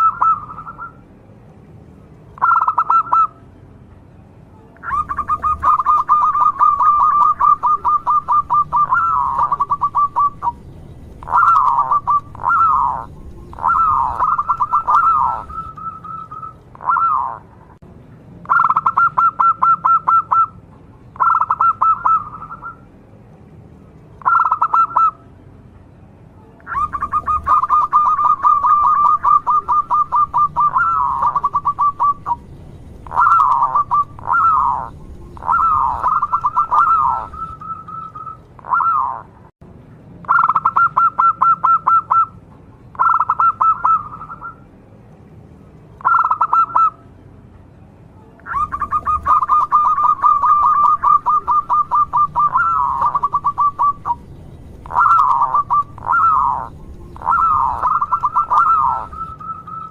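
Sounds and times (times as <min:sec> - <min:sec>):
dove cooing in trilling notes: 0:00.0 - 0:01.0, 0:02.4 - 0:03.4, 0:04.8 - 0:17.8, 0:18.4 - 0:20.6, 0:21.2 - 0:22.8, 0:24.2 - 0:25.2, 0:26.6 - 0:39.5, 0:40.3 - 0:44.7, 0:46.0 - 0:47.0, 0:48.4 - 0:59.9.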